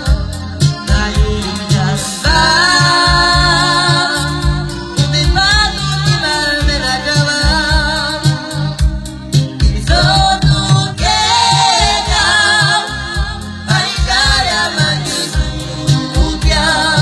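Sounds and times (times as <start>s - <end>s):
bass and drum beat: 0.0s - 17.0s
keyboard backing: 0.0s - 17.0s
man singing with vibrato: 0.0s - 17.0s.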